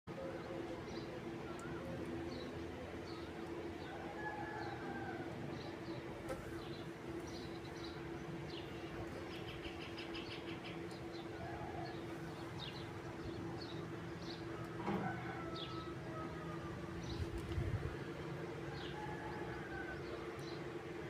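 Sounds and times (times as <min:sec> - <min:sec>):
birds chirping: 0:00.1 - 0:21.0
steady low hum: 0:00.1 - 0:21.0.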